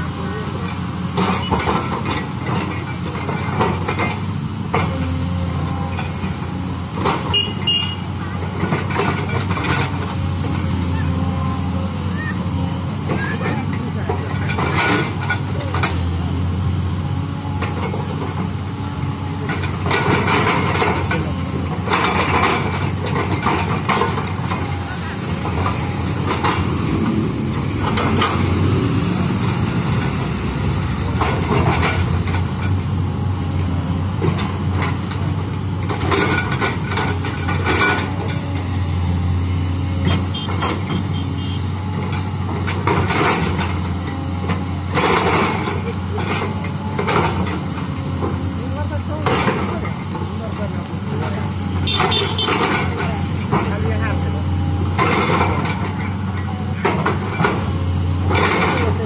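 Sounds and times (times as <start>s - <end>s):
excavator diesel engine running: 0.0s - 59.0s
truck passing: 0.0s - 59.0s.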